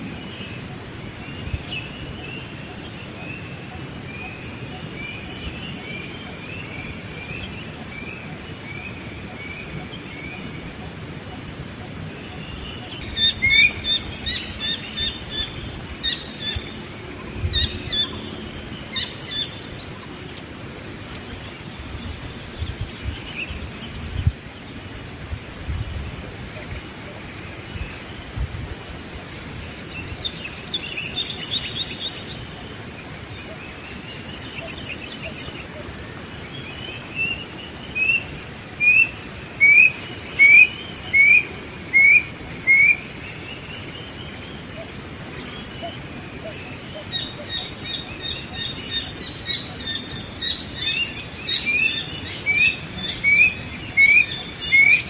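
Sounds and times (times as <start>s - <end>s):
birds chirping: 0.0s - 24.9s, 29.2s - 55.0s
high insect whine: 0.0s - 55.0s
pulsing insect drone: 0.0s - 55.0s.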